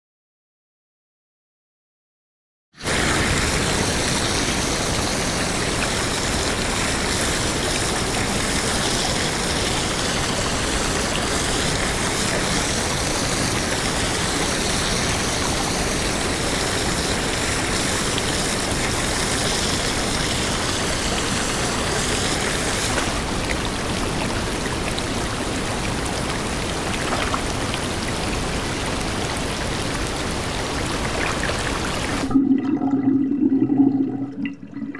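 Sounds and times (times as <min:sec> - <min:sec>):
waterfall splashing into pool: 0:02.8 - 0:32.3.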